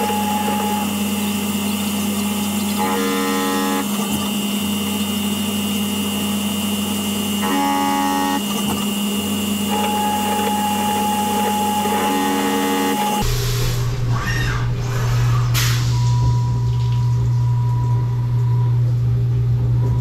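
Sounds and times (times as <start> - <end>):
machine spindle hum: 0.0 - 20.0.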